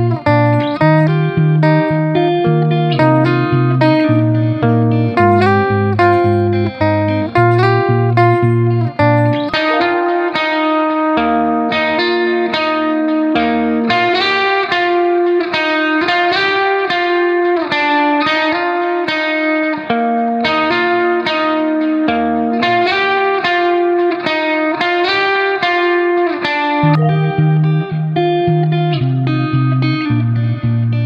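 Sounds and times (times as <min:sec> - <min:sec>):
plucked guitar run: 0:00.0 - 0:31.0.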